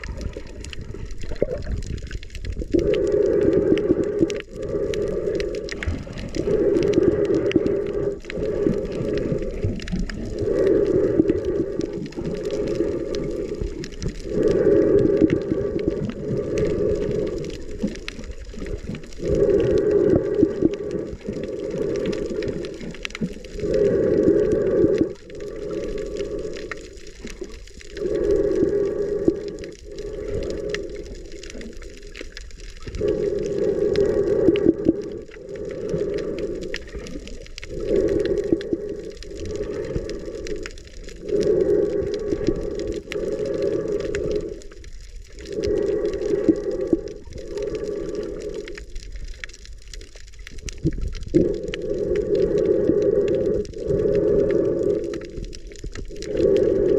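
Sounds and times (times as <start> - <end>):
breathing through a snorkel: 0.0 - 56.9.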